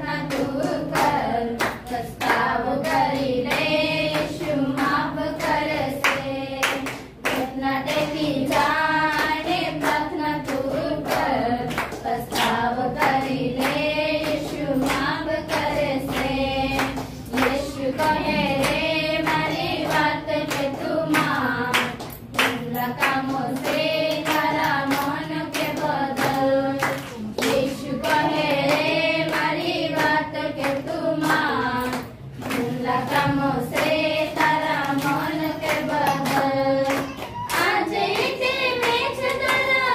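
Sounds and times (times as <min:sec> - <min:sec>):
hands clapping to a beat: 0:00.0 - 0:39.9
women singing devotional song: 0:00.0 - 0:39.9.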